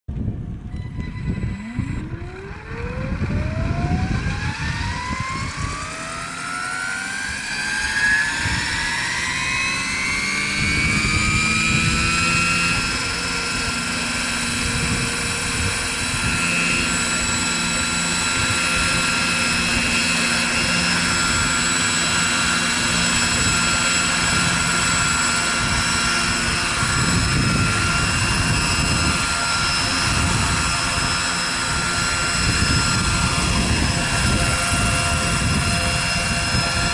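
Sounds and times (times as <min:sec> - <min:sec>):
model helicopter motor whine: 0:00.1 - 0:36.9
rotor whoosh: 0:00.4 - 0:36.9.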